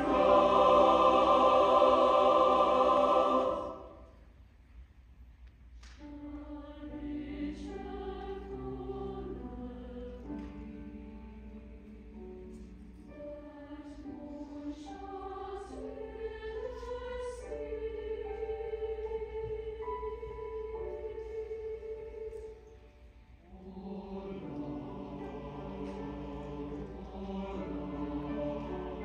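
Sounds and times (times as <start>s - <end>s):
choir singing in harmony: 0.0s - 4.4s, 6.0s - 29.0s.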